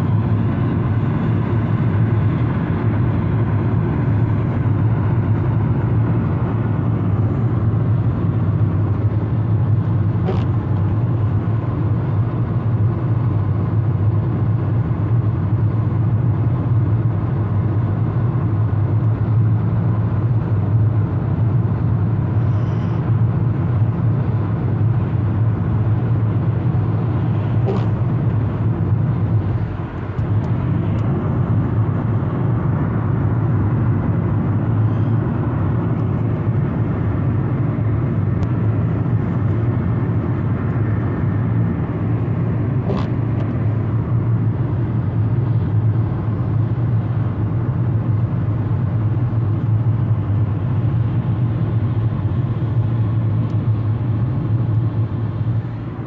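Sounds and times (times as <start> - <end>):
car engine and drivetrain hum: 0.0 - 56.0.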